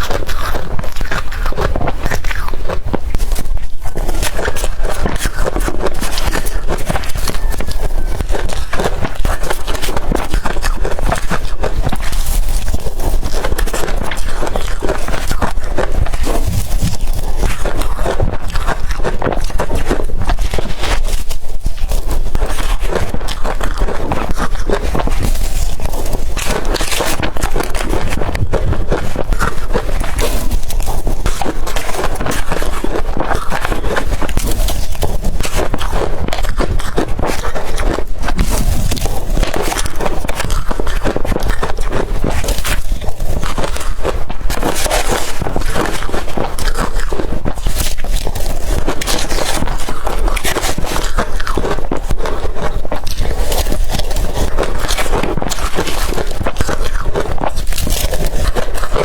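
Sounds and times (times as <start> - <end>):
crushed ice being chewed: 0.0 - 59.0.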